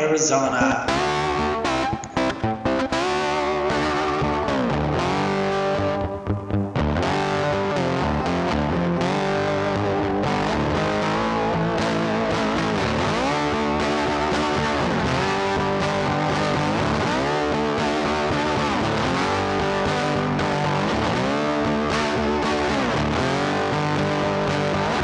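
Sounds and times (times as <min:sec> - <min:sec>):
distorted electric guitar music: 0:00.0 - 0:25.0.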